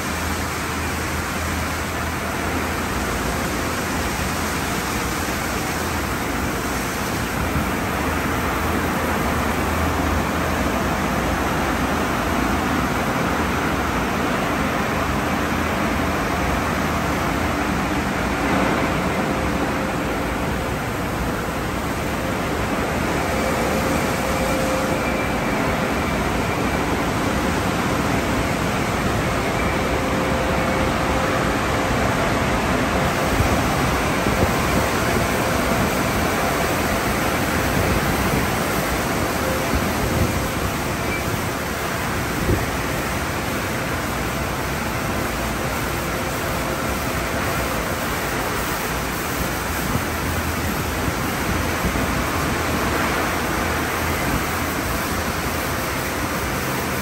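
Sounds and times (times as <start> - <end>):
car wash water spraying: 0.0 - 57.0.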